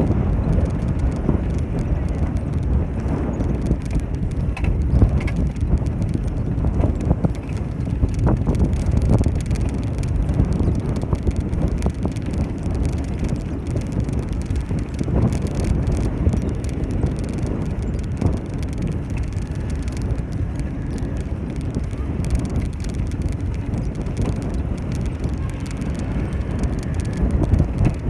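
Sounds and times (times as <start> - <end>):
bicycle tyres rumbling on road: 0.0 - 28.0
wind buffeting microphone: 0.0 - 28.0.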